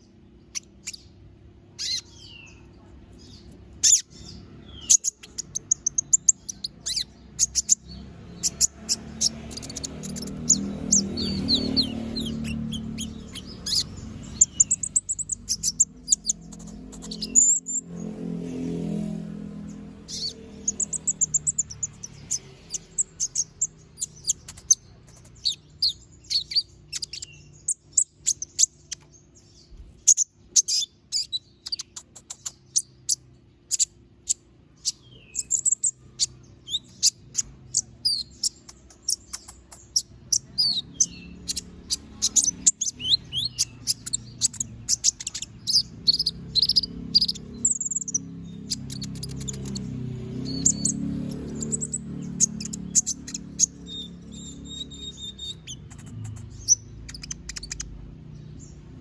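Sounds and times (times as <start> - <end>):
songbird chirping and twittering: 0.0 - 59.0.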